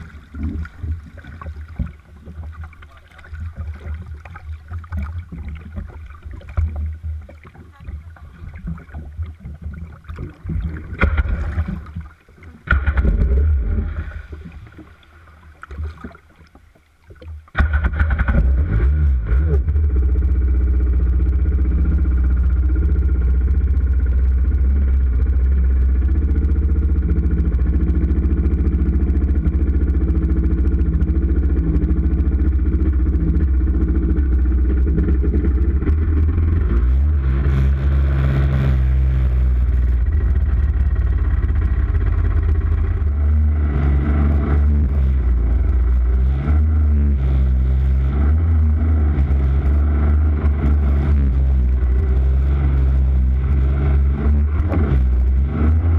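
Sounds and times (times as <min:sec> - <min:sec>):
jet ski engine rumbling: 0:00.0 - 0:55.9.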